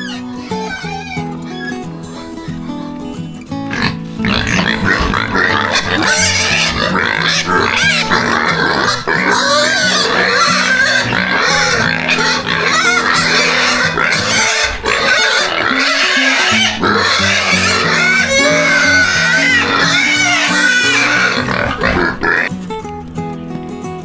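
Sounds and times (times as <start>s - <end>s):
pigs calling: 0.0s - 22.6s
music with held notes: 0.0s - 24.0s.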